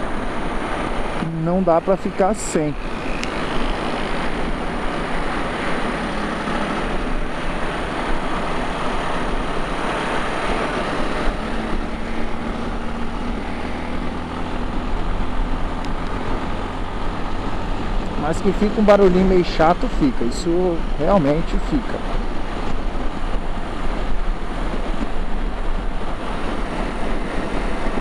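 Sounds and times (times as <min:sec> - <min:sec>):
wind rush on microphone: 0:00.0 - 0:01.3, 0:02.0 - 0:28.0.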